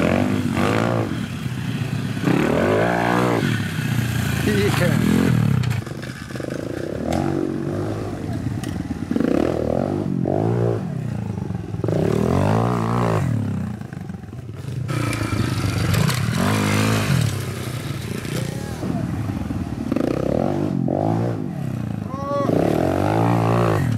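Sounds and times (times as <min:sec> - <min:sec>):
pit bike engine revving: 0:00.0 - 0:23.9.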